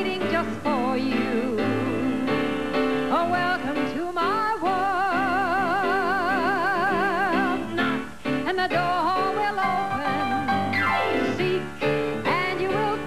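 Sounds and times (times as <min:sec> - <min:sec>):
instrumental backing music: 0:00.0 - 0:13.0
woman singing: 0:00.0 - 0:13.0.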